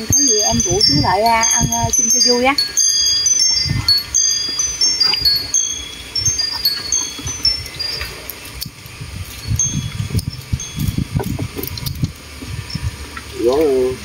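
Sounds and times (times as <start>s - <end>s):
wind chime tinkling: 0.0s - 13.2s.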